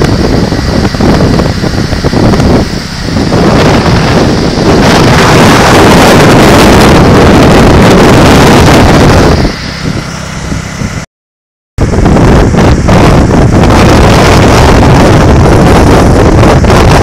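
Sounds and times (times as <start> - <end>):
motorcycle engine running: 0.0 - 11.1, 11.8 - 17.0
wind buffeting microphone: 0.0 - 11.1, 11.8 - 17.0.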